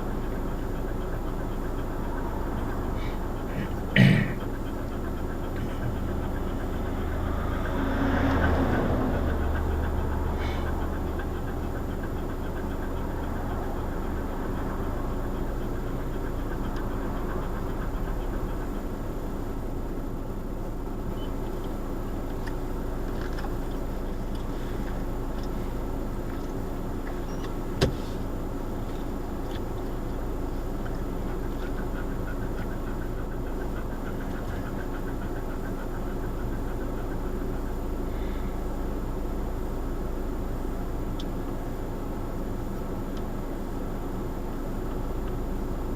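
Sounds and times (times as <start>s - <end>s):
car engine hum: 0.0s - 45.9s
road noise: 0.0s - 45.9s.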